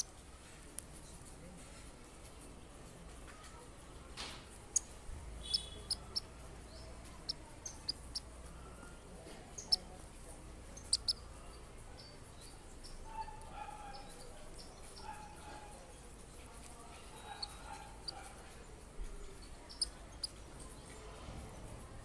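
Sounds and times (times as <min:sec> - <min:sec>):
small birds chirping: 0:00.0 - 0:00.2, 0:00.8 - 0:21.7.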